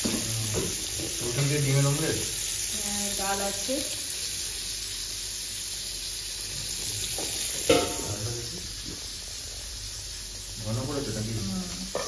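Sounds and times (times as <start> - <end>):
carrot sizzling in a pan: 0.0 - 12.0.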